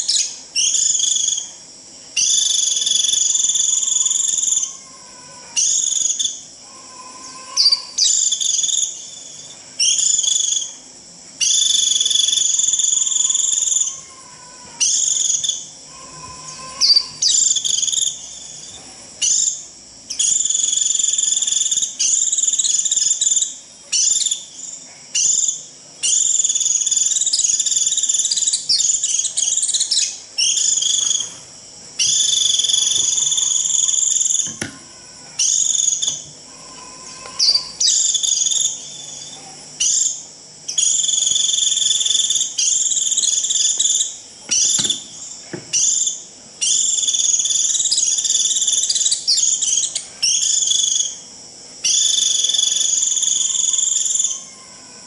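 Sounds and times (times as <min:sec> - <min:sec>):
white-eye buzzy trilled calls: 0:00.0 - 0:55.0.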